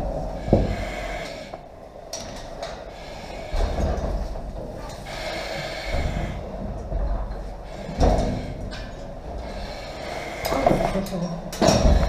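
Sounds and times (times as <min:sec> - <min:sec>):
breathing through a mask: 0:00.1 - 0:12.0.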